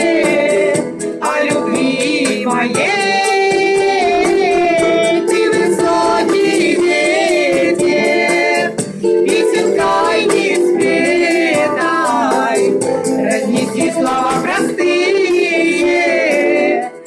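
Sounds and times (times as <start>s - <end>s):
sustained accompaniment: 0.0s - 17.0s
voices singing: 0.0s - 17.0s.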